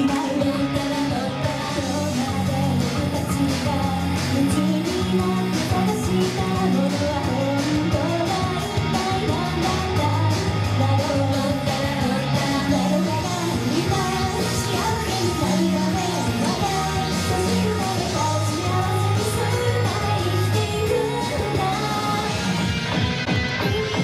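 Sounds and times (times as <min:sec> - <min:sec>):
women singing into microphones: 0:00.0 - 0:22.6
pop-rock backing track: 0:00.0 - 0:24.0.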